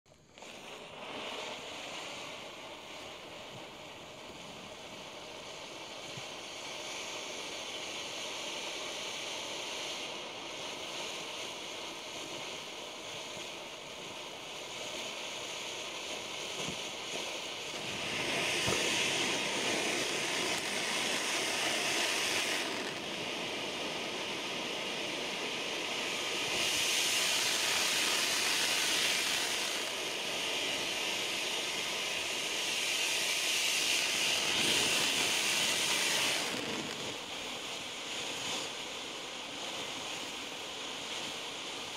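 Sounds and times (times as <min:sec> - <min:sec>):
firework fountain hissing: 0:00.1 - 0:41.9.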